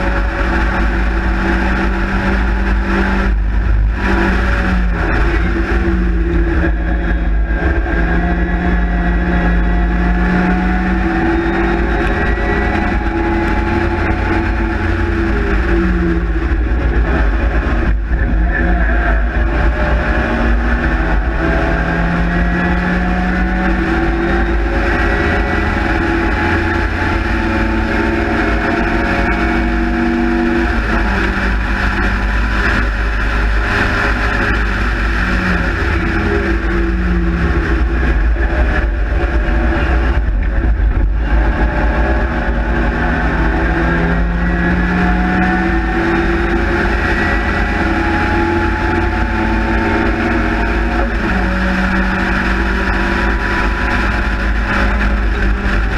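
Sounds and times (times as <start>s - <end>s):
racing car engine revving: 0.0s - 55.9s
wind rumble: 0.0s - 55.9s.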